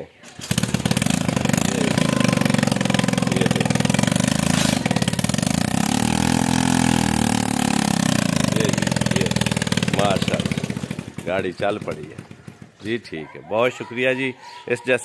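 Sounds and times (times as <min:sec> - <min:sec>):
small tractor engine revving: 0:00.2 - 0:12.9.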